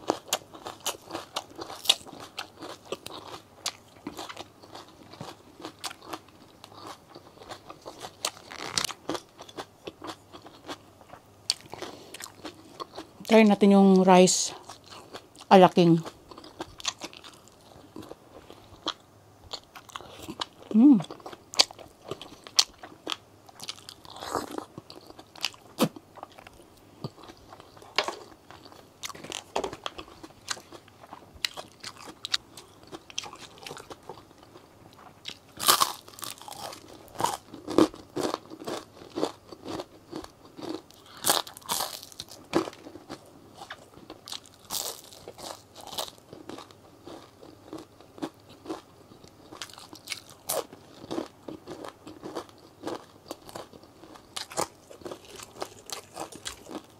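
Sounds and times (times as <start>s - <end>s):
chewing with crisp crunches: 0.0s - 56.9s.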